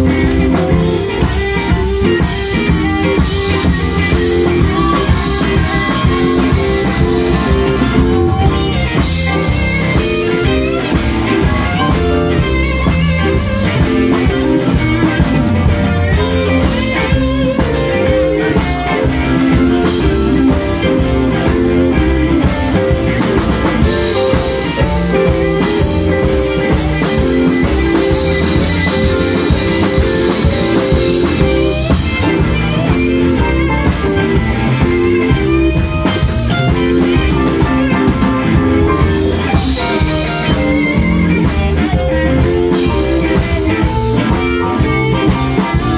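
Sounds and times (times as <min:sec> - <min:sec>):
drum kit: 0:00.0 - 0:45.9
electric guitars: 0:00.0 - 0:45.9.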